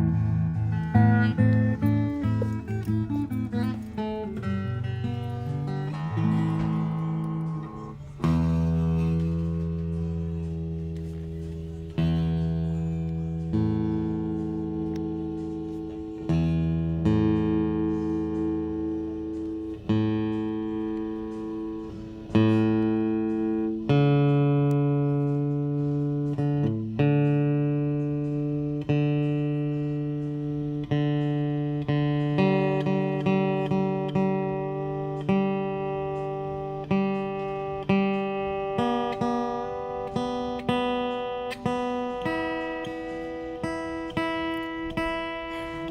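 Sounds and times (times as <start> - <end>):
acoustic guitar strummed chords: 0.0 - 45.9.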